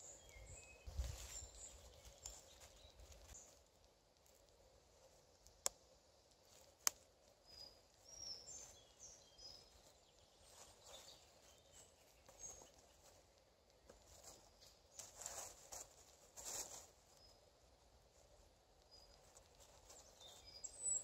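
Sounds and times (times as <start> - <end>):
handling wooden sticks and cord: 0.0 - 17.4.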